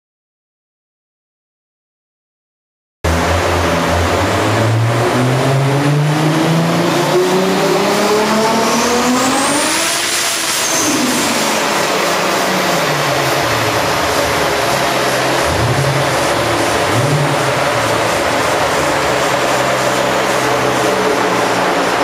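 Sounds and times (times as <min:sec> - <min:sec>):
car engine revving under load: 0:03.1 - 0:22.0
high whine: 0:03.1 - 0:22.0.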